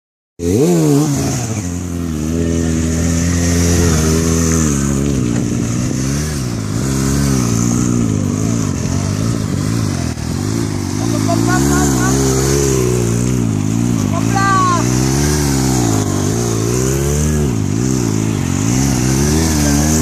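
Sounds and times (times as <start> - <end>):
motorcycle engine revving: 0.4 - 20.0.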